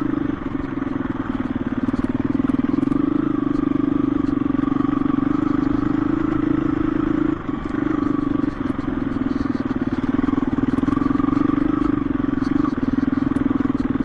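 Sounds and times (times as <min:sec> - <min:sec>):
dirt bike engine running: 0:00.0 - 0:14.0
small clicks and clatter: 0:00.0 - 0:14.0.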